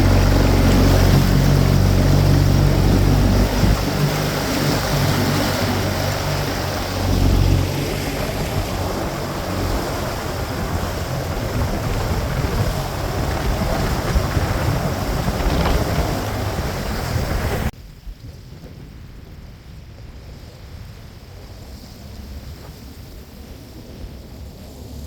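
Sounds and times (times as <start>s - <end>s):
boat running across water: 0.0s - 25.0s
wind buffeting microphone: 0.0s - 25.0s.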